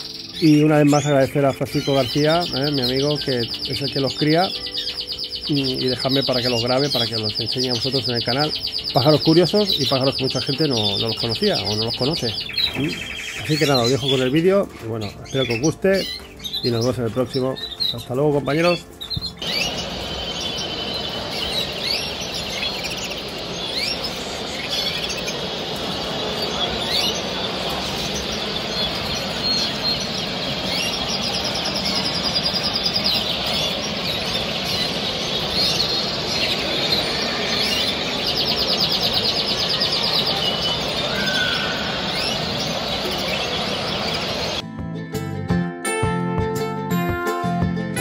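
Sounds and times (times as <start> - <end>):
canaries chirping and singing: 0.0 - 44.6.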